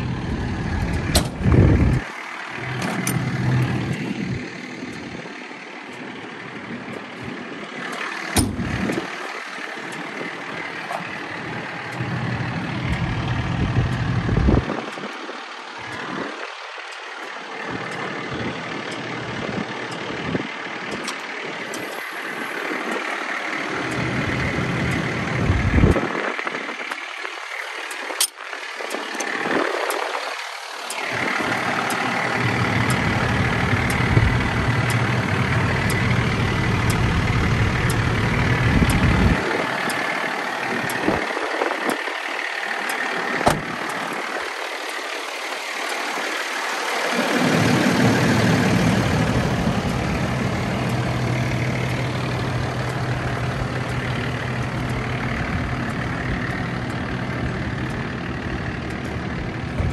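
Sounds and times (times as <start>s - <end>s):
diesel truck idling: 0.0s - 59.9s.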